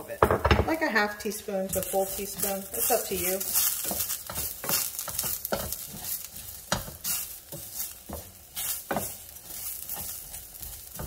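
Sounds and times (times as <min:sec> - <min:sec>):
rice and onion sizzling in a skillet: 0:00.0 - 0:11.0
wooden spatula scraping a pan: 0:00.1 - 0:11.0.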